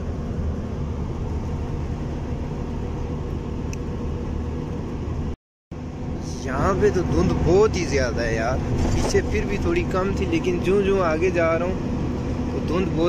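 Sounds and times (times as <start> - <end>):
road noise: 0.0 - 13.0
truck diesel engine drone: 0.0 - 13.0.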